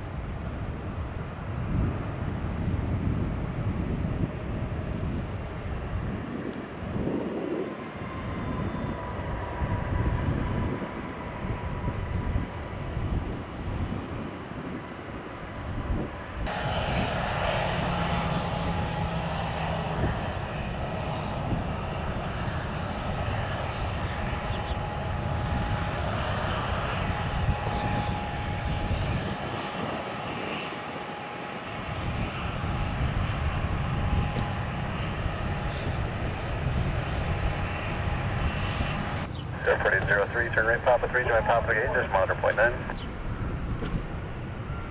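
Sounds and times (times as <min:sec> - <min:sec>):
jet engines rushing with faint whine: 0:00.0 - 0:44.9.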